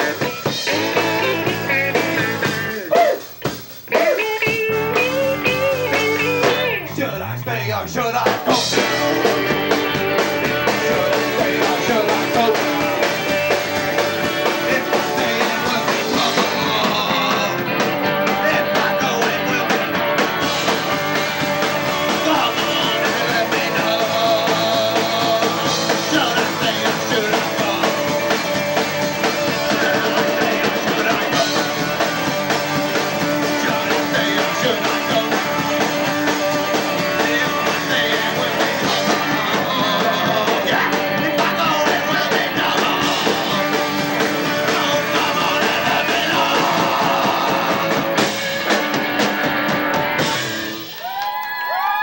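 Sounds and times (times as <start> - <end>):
person singing: 0.0 - 3.3, 3.9 - 48.4
distorted electric guitars: 0.0 - 52.0
drum kit: 0.0 - 52.0
punk rock band playing: 0.0 - 52.0.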